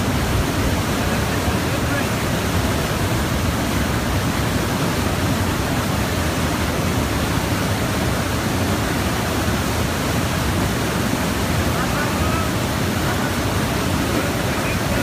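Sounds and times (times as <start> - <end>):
water rushing through turbine: 0.0 - 15.0.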